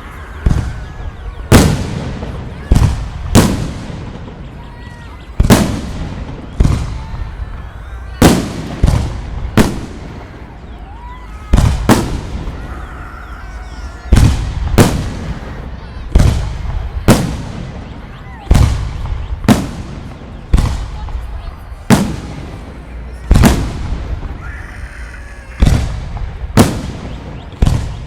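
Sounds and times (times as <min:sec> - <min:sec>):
fireworks booming: 0:00.0 - 0:28.0.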